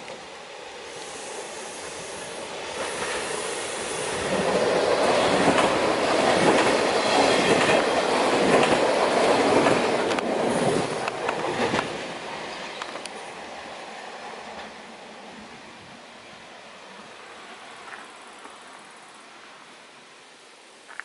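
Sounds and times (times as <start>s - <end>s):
electric train passing: 0.0s - 20.3s.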